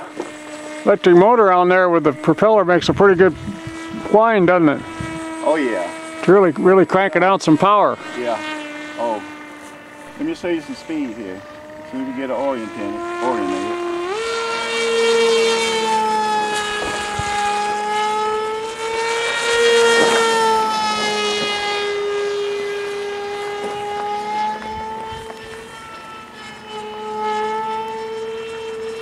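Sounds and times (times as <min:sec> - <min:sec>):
model airplane motor whining: 0:00.0 - 0:29.0.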